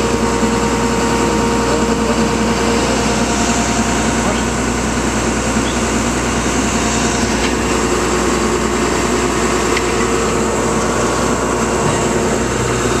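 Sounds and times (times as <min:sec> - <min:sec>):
vehicle engine hum from inside: 0:00.0 - 0:13.0.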